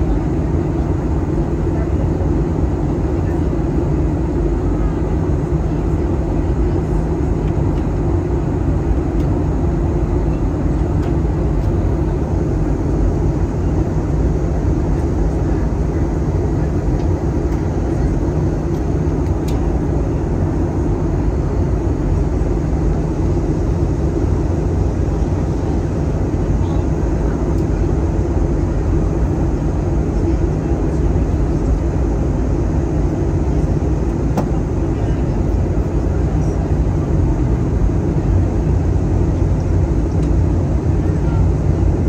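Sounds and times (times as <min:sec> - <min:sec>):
airliner cabin engine rumble: 0:00.0 - 0:42.0.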